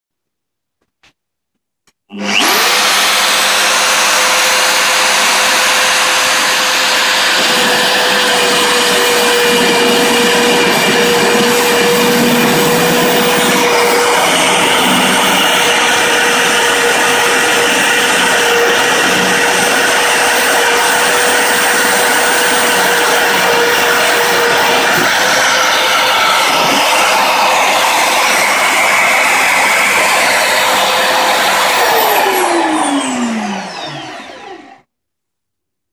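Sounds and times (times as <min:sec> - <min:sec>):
rough metal cutting noise: 0:01.9 - 0:34.9
core drill motor whine: 0:02.1 - 0:34.9.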